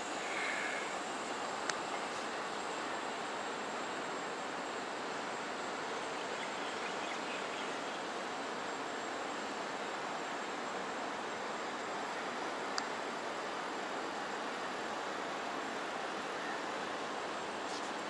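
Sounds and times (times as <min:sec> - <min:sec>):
even hiss: 0:00.0 - 0:18.0.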